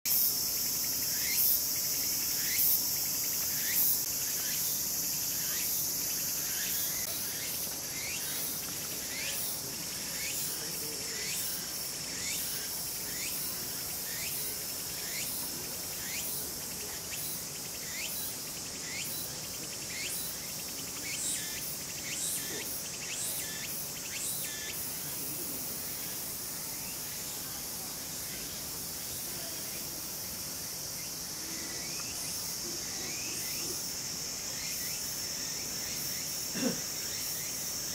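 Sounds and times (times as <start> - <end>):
insects droning: 0.1 - 37.9.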